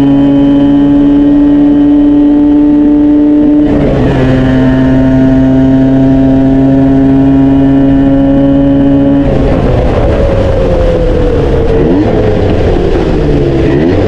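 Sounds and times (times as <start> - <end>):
small motorcycle engine revving: 0.0 - 14.0.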